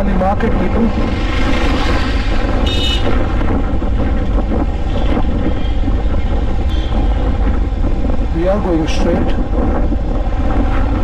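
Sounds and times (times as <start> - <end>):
wind rumble on microphone: 0.0 - 11.0
motorcycle engine running: 0.1 - 11.0.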